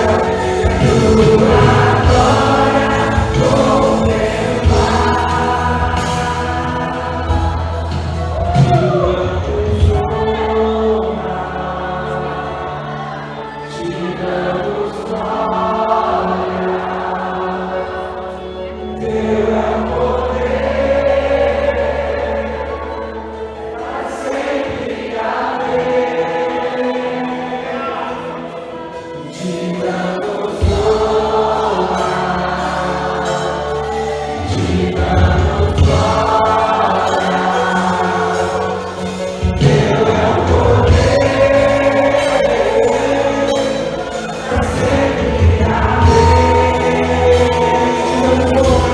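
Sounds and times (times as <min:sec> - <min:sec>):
deep bass accompaniment: 0:00.0 - 0:24.0, 0:30.4 - 0:48.9
choir singing held notes: 0:00.0 - 0:48.9.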